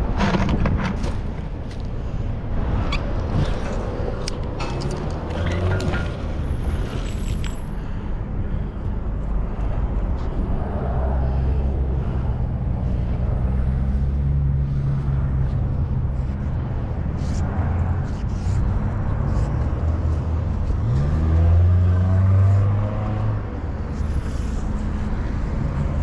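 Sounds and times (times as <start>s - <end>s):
cars passing rumble: 0.0s - 26.0s.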